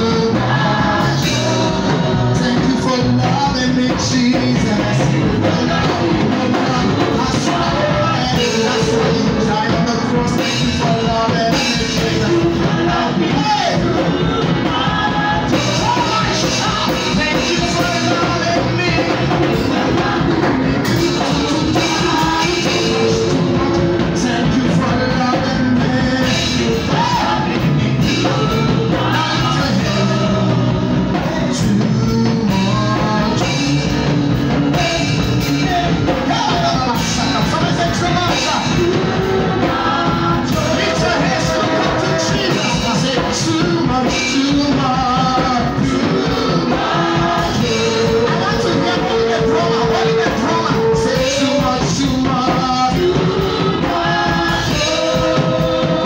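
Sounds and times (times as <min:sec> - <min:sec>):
instrumental accompaniment: 0:00.0 - 0:56.0
man singing into a microphone: 0:00.0 - 0:56.0.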